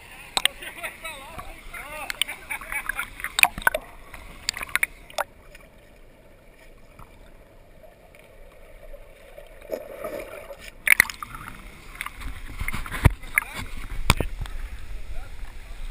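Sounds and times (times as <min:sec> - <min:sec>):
muffled underwater water hush: 0:00.0 - 0:15.9
water splashing: 0:00.0 - 0:15.9.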